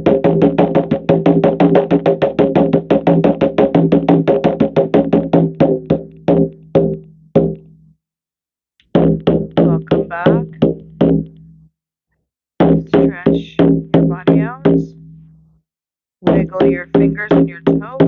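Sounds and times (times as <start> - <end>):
hand drum beaten: 0.0 - 7.8, 8.8 - 11.6, 12.6 - 15.2, 16.2 - 18.0.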